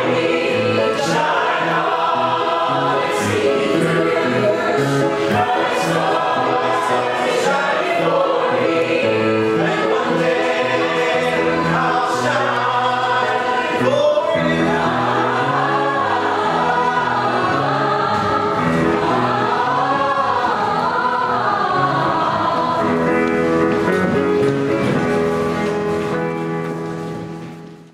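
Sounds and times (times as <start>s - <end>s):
group of voices singing: 0.0s - 23.6s
instrumental backing: 0.0s - 27.9s.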